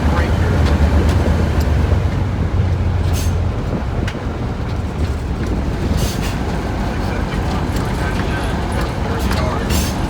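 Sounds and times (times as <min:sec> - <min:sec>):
diesel locomotive engine rumble: 0:00.0 - 0:10.0.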